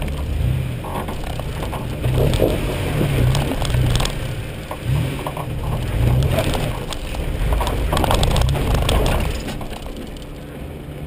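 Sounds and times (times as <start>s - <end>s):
tyres knocking and scraping on rocks: 0.0s - 10.6s
off-road engine revving: 0.0s - 11.0s.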